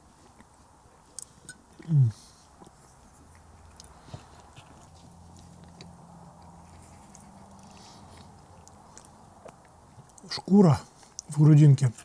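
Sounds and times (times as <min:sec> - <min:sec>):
faint low hum: 0:00.0 - 0:12.0
chewing: 0:00.1 - 0:12.0.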